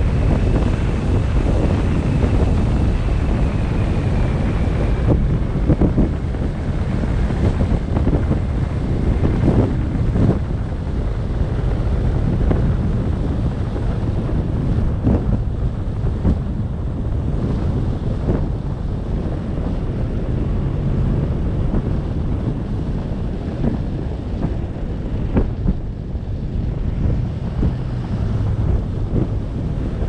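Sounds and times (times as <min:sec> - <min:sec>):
steady low rumble: 0:00.0 - 0:30.0
wind buffeting microphone: 0:00.0 - 0:30.0.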